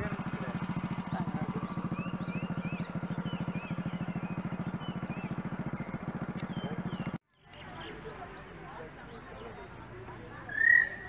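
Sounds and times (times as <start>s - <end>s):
motorcycle engine cruising: 0.0s - 11.0s
small birds chirping: 0.0s - 11.0s.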